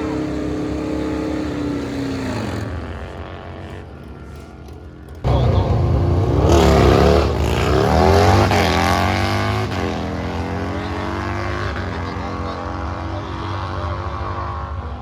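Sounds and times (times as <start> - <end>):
drag racer accelerating: 0.0 - 15.0.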